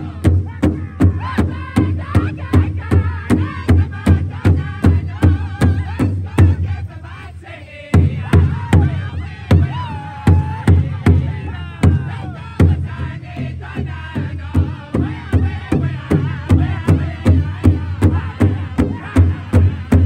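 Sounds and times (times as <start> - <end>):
large drum beating: 0.0 - 6.7, 8.0 - 20.0
group singing: 0.0 - 20.0.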